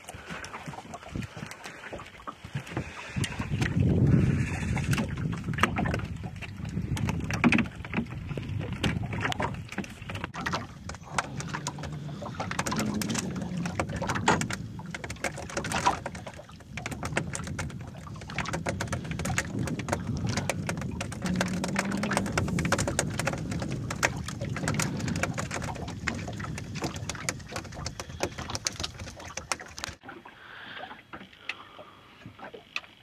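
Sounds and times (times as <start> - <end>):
clicks and knocks on boat: 0.0 - 30.2
water lapping against hull: 0.0 - 33.0.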